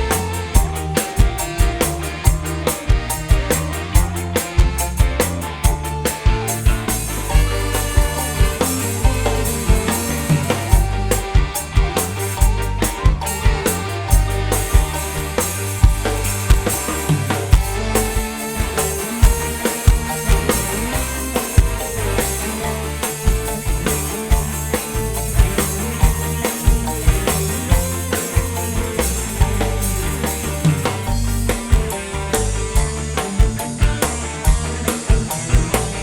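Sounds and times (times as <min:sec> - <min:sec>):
band music over loud sound system: 0:00.0 - 0:36.0.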